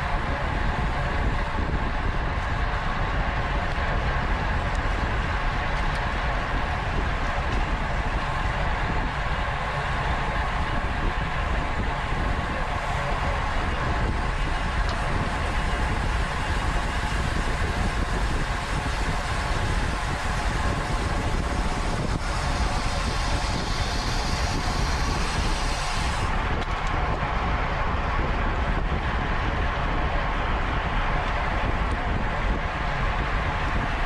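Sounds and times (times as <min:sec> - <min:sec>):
bicycle tyres and drivetrain rushing: 0:00.0 - 0:34.0
wind buffeting microphone: 0:00.0 - 0:34.0.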